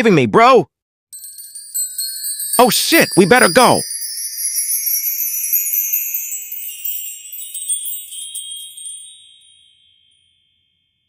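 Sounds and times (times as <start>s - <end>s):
high shimmering tinkling: 1.2s - 11.0s.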